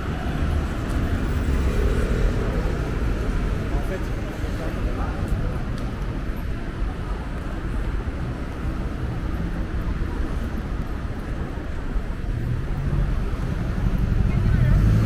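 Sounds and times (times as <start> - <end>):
traffic rumble: 0.0 - 15.0
vehicle engine: 0.0 - 15.0.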